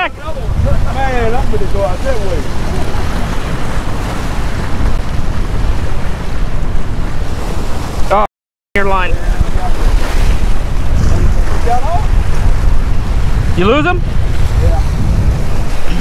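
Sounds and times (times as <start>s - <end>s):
surf breaking on rocks: 0.0s - 8.2s, 8.8s - 16.0s
wind noise on microphone: 0.0s - 8.2s, 8.8s - 16.0s.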